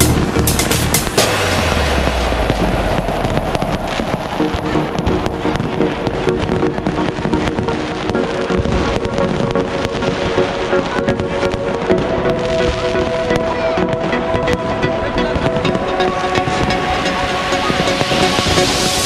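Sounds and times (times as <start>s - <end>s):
fireworks bangs and crackling: 0.0s - 19.0s
music with long held notes: 0.0s - 19.0s.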